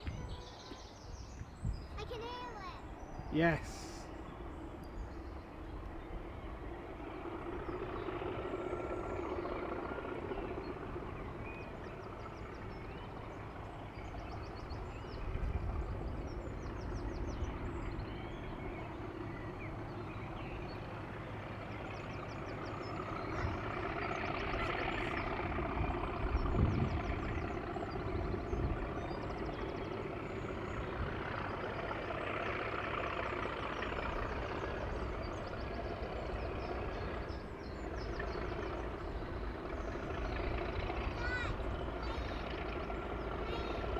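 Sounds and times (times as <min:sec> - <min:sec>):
diesel locomotive engine rumbling: 0:00.0 - 0:43.9.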